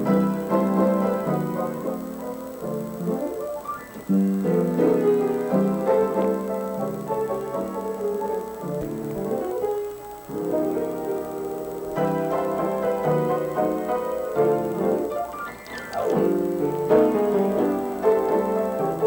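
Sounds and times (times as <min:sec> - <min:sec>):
piano chords and melody: 0:00.0 - 0:19.0.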